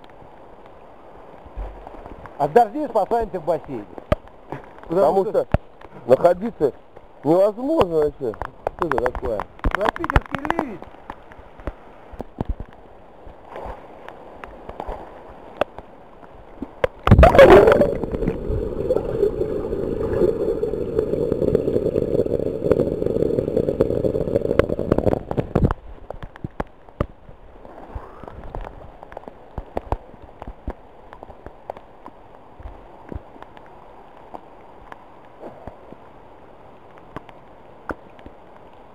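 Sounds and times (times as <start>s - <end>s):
rain pattering on pool water: 0.0s - 27.3s, 28.3s - 38.9s.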